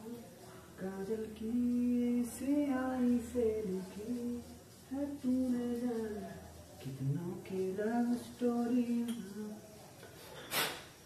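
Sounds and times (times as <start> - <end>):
person singing slow melody: 0.0 - 9.8.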